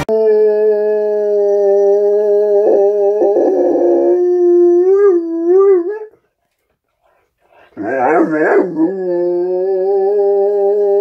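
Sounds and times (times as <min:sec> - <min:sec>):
dog howling: 0:00.3 - 0:06.1, 0:07.8 - 0:11.0.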